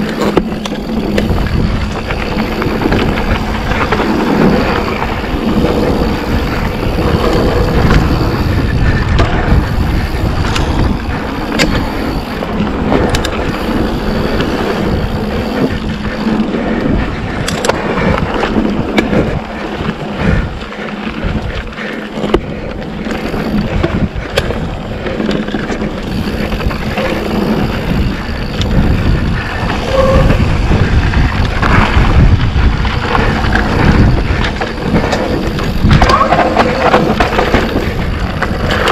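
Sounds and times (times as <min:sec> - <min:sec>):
bike clicks and rattles: 0:00.0 - 0:38.9
bike tyre rumble on dirt: 0:00.0 - 0:38.9
wind noise on microphone: 0:00.0 - 0:38.9.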